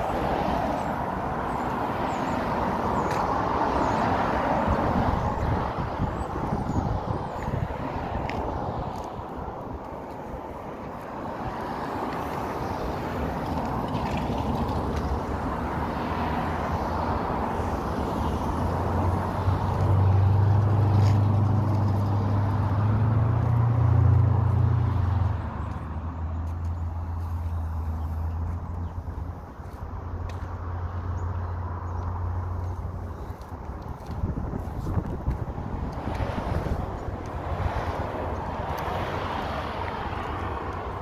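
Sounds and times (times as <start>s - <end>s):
outdoor background noise: 0.0s - 41.0s
vehicle engine drone: 0.0s - 41.0s.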